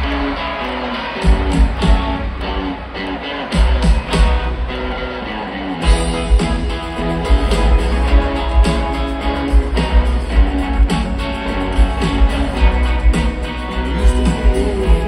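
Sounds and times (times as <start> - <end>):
electric guitars: 0.0 - 15.0
live rock band: 0.0 - 15.0.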